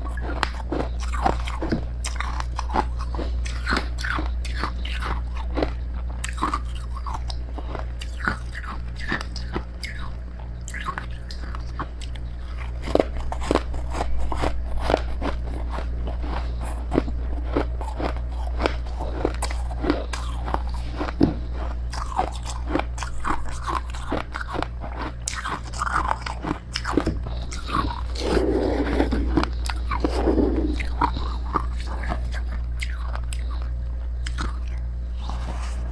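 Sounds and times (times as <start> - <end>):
chewing crunchy frost: 0.0 - 35.9
steady low hum: 0.0 - 35.9.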